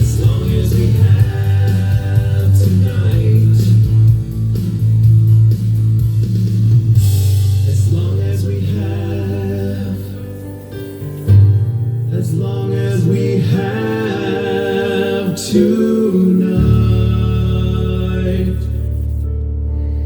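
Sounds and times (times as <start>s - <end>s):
guitar: 0.0s - 20.0s
steady bass line: 0.0s - 20.0s.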